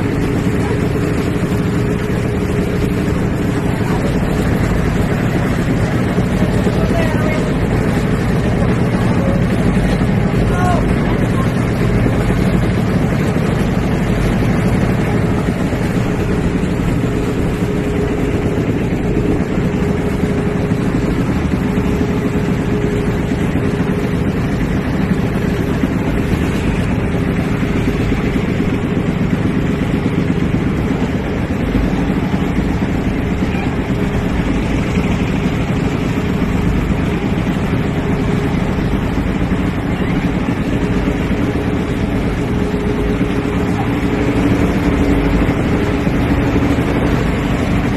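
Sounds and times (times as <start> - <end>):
boat engine running steadily: 0.0 - 47.9
water churning in tank: 0.0 - 47.9.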